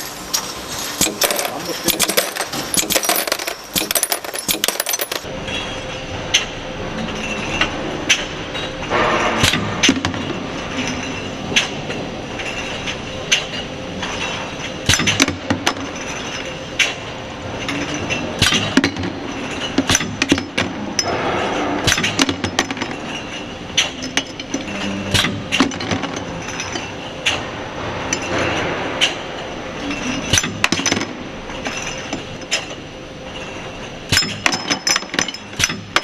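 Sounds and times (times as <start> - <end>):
conveyor line mechanical hum: 0.0 - 36.0.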